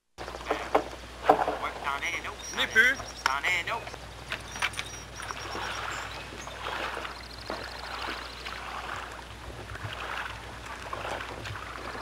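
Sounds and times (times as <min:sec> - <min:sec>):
steady low hum: 0:00.2 - 0:12.0
water splashing and lapping: 0:00.2 - 0:12.0.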